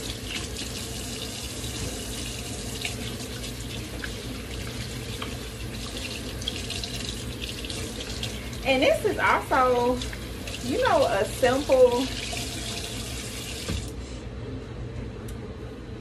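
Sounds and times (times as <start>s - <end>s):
faucet running: 0.0s - 14.0s.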